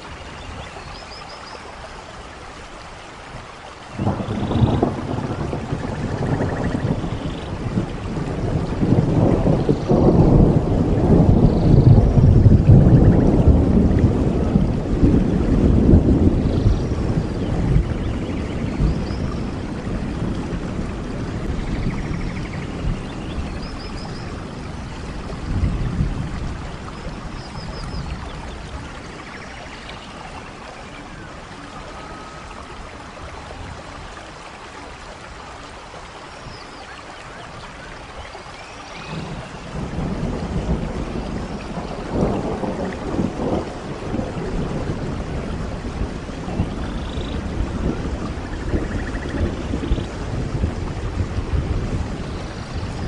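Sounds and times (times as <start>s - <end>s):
heavy rain: 0.0s - 53.0s
rolling thunder: 3.9s - 34.2s, 39.0s - 53.0s.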